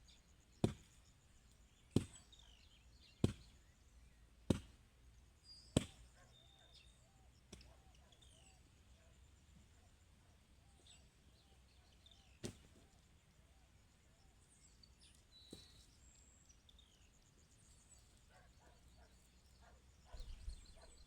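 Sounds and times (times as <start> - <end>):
birds chirping: 0.0 - 4.3, 5.4 - 21.0
low rural background: 0.0 - 21.0.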